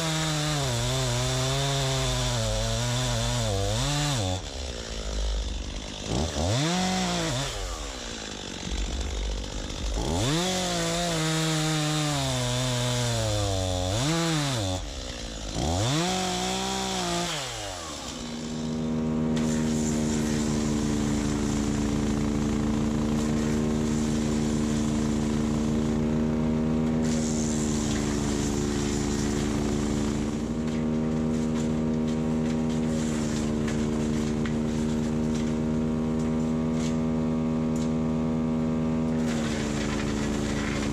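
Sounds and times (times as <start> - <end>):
chainsaw cutting through logs: 0.0 - 40.9.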